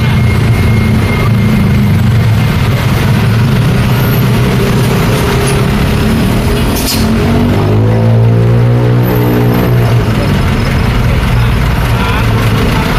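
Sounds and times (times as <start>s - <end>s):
road traffic: 0.0s - 12.9s.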